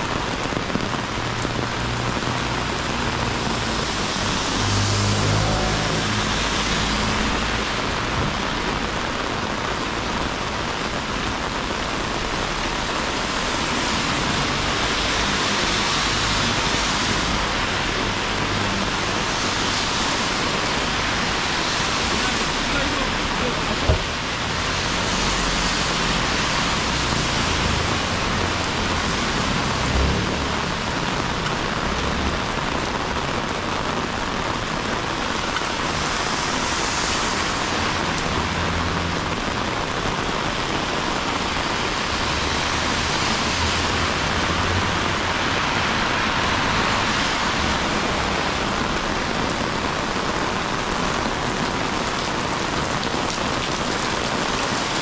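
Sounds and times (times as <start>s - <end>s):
heavy rain on street: 0.0s - 55.0s.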